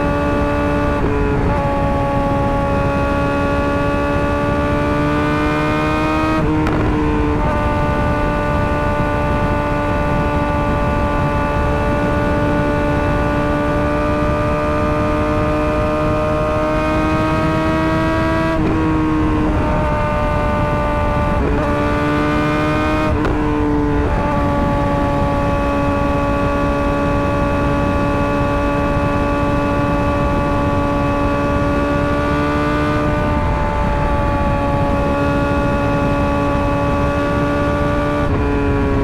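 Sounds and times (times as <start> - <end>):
motorcycle engine revving: 0.0 - 39.0
wind and road noise: 0.0 - 39.0.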